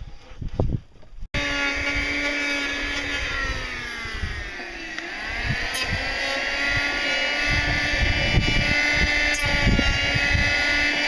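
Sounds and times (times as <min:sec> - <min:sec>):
power tool motor whine: 0:01.4 - 0:11.0
tool cutting into wood: 0:01.4 - 0:11.0.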